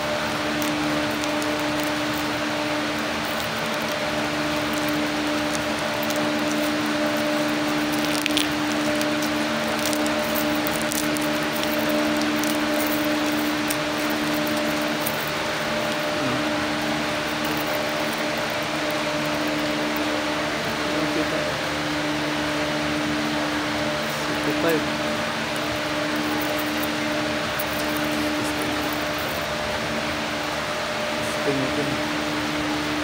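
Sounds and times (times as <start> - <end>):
motor hum: 0.0 - 33.0.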